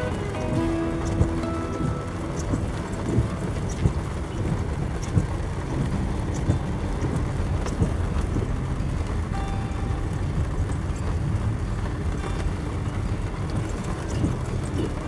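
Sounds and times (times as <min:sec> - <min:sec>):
vehicle engine and tyres rumble: 0:00.0 - 0:15.0
windshield wipers ticking: 0:00.0 - 0:15.0.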